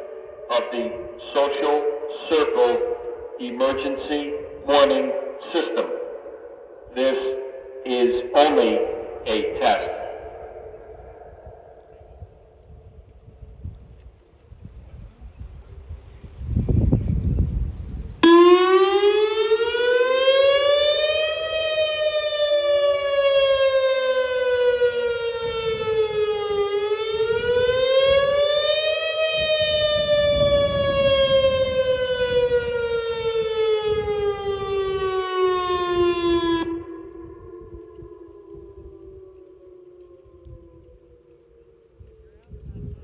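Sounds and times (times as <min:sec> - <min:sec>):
warning siren wailing: 0:00.0 - 0:13.0, 0:18.2 - 0:43.0.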